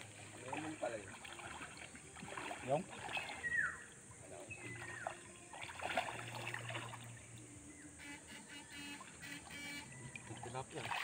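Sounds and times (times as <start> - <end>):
water sloshing around wading feet: 0.0 - 7.8, 9.0 - 11.0.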